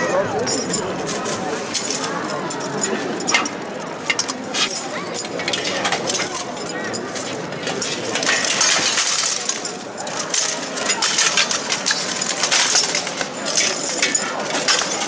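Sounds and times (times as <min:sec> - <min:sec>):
armour plates rattling: 0:00.2 - 0:15.0
steel weapons clanking: 0:00.4 - 0:15.0.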